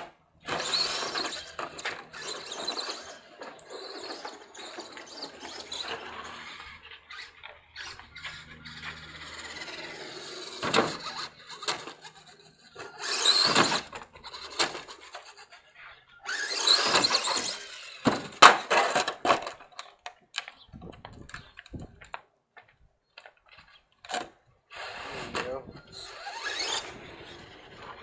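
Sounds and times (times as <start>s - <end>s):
toy truck motor revving whine: 0.0s - 19.2s, 24.1s - 28.0s
toy truck crashing and tumbling: 0.0s - 22.0s, 24.0s - 28.0s
tyre noise on concrete: 0.0s - 28.0s.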